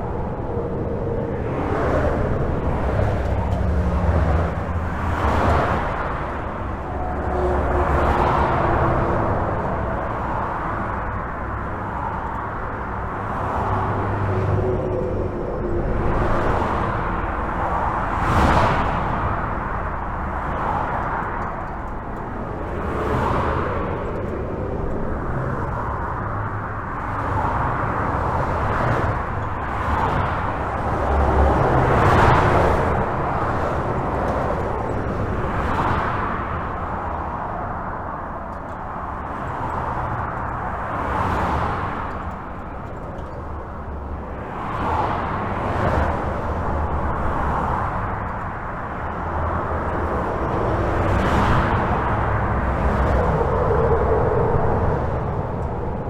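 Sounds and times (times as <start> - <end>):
highway traffic rumble: 0.0 - 56.0
vehicles passing: 0.0 - 56.0.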